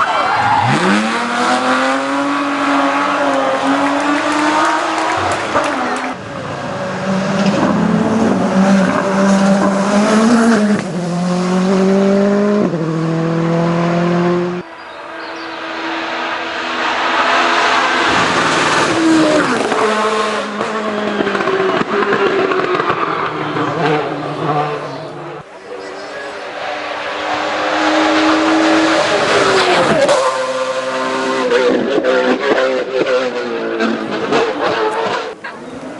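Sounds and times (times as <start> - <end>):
race car engine accelerating: 0.3 - 35.9.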